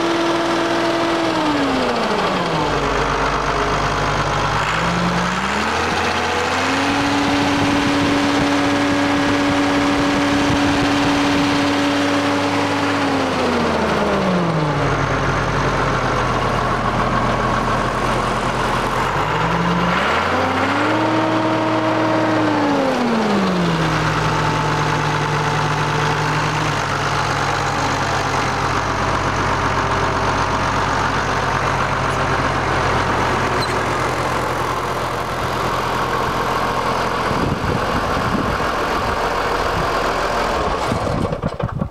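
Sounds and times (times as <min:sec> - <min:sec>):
diesel tractor engine revving: 0:00.0 - 0:41.9.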